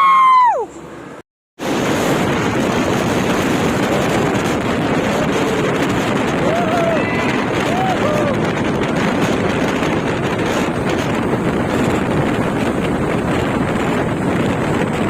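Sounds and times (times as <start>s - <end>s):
truck engine and road noise: 0.0s - 15.0s
wind buffeting microphone: 1.6s - 15.0s.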